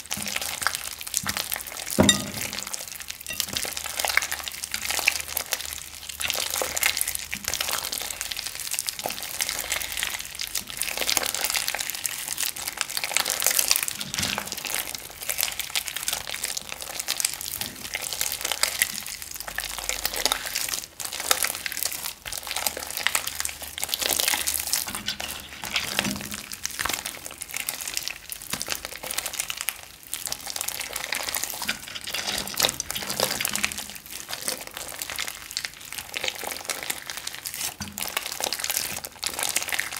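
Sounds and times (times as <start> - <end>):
slime squelching with wet crackles: 0.0 - 39.9.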